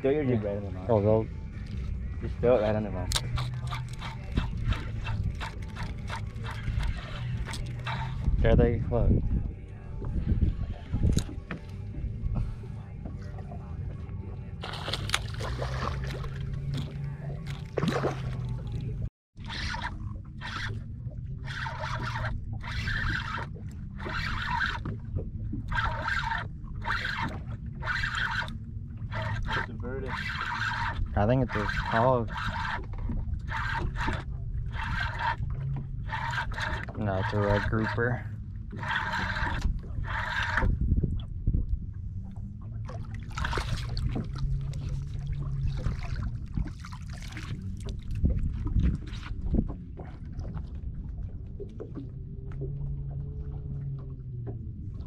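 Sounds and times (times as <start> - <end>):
low steady rumble: 0.0 - 55.0
water lapping against boat hull: 0.0 - 55.0
wind on microphone: 1.2 - 55.0.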